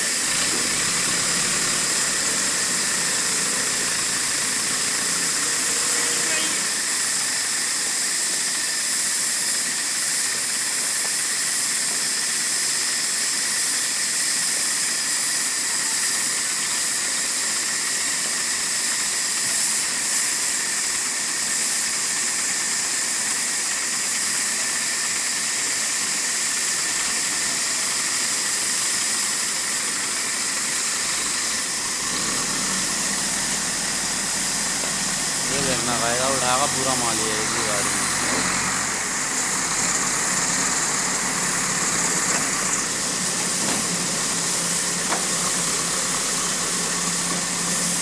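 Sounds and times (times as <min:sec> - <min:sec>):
loud hissing machinery: 0:00.0 - 0:48.0.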